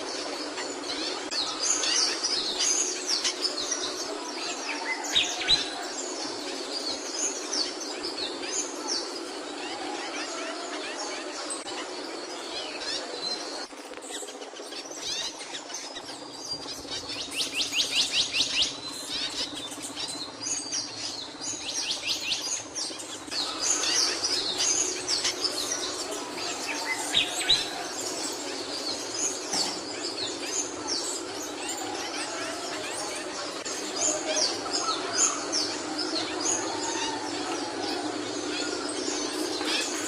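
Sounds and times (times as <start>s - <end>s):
songbird singing: 0.0s - 40.0s
steady low hum: 0.0s - 40.0s.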